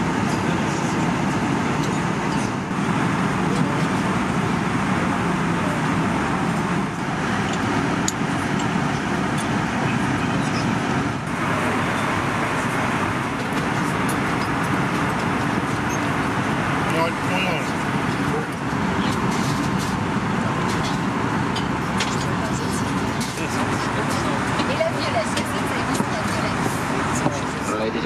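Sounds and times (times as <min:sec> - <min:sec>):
airplane cabin noise: 0:00.0 - 0:28.0.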